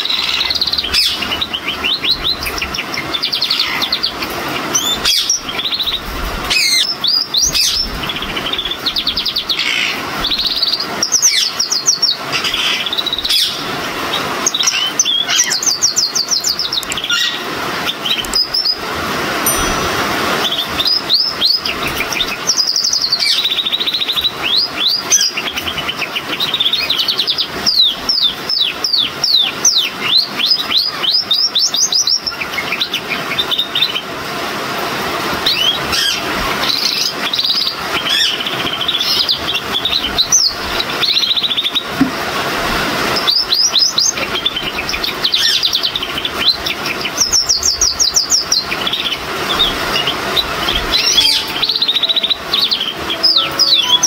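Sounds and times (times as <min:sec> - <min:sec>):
canary singing trills: 0:00.0 - 0:34.1, 0:35.4 - 0:42.0, 0:43.1 - 0:54.0.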